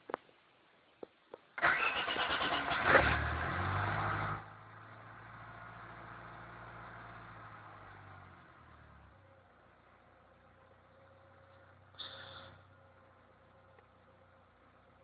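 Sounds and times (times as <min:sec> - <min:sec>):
car engine starting and idling: 0:01.6 - 0:15.0.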